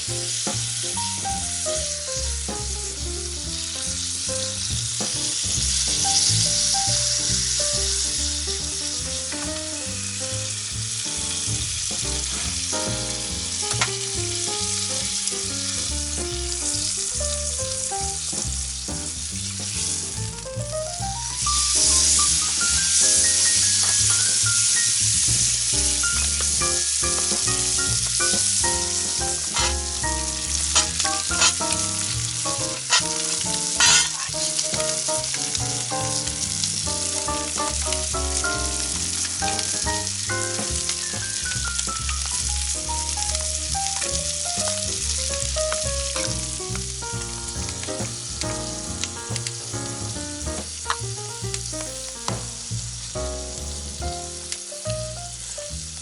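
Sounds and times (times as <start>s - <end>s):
food frying and sizzling: 0.0s - 56.0s.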